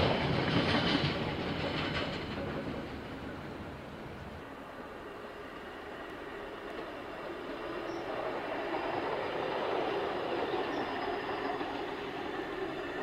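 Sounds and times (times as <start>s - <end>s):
train passing: 0.0s - 13.0s.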